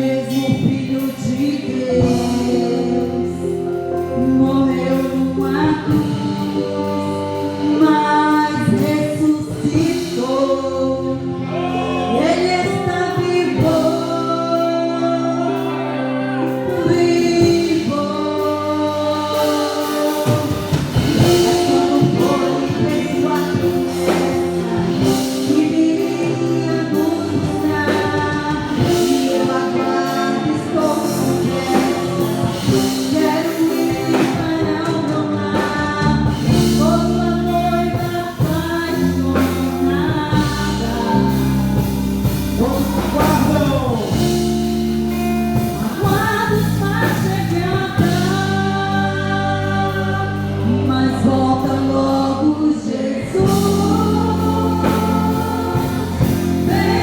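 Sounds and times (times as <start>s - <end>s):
group singing worship song: 0.0s - 57.0s
keyboard or organ backing: 0.0s - 57.0s.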